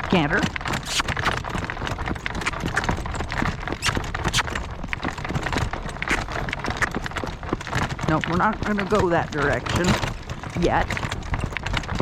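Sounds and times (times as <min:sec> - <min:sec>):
horse hooves on road: 0:00.0 - 0:12.0
wind rumbling on microphone: 0:00.0 - 0:12.0.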